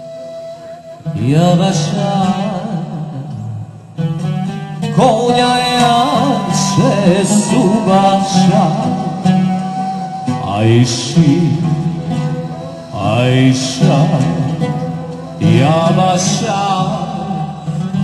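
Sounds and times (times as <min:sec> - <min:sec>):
plucked string accompaniment: 0:00.0 - 0:18.0
man singing ornamented phrases: 0:01.0 - 0:04.0, 0:04.8 - 0:18.0.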